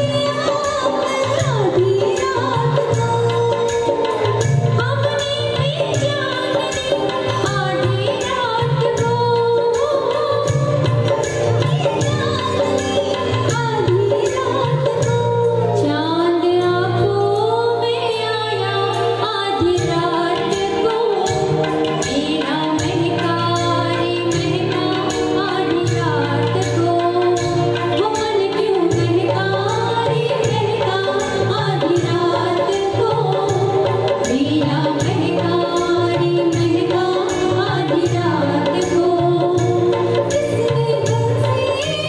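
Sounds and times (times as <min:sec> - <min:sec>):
amplified instrumental accompaniment: 0:00.0 - 0:42.0
women singing into microphones: 0:00.0 - 0:42.0.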